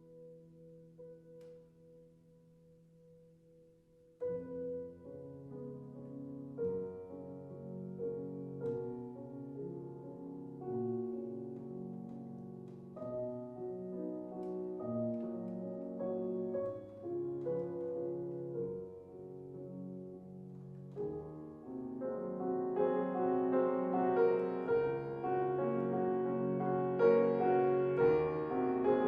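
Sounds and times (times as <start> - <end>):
slow classical solo piano: 0.0 - 29.0.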